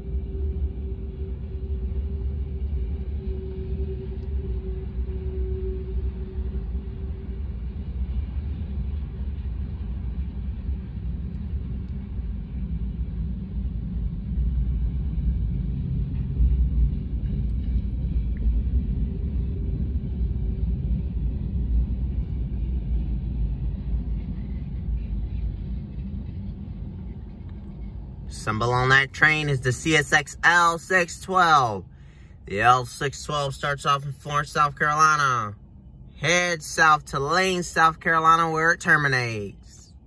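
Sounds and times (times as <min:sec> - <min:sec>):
freight train rumbling over rails: 0:00.0 - 0:35.5
faint steady whine: 0:00.0 - 0:40.0.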